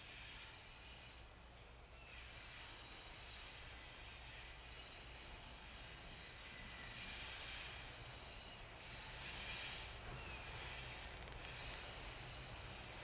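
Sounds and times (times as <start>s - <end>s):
distant locomotive engine drone: 0.0s - 13.0s.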